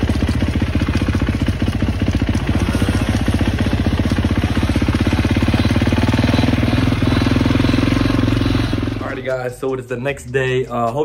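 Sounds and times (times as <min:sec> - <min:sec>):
vehicle engine running steadily: 0:00.0 - 0:09.5.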